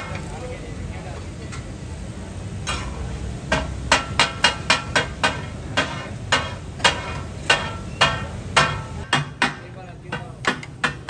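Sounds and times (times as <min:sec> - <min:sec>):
metal spatulas clanging on griddle: 0:00.0 - 0:00.5, 0:02.6 - 0:11.0.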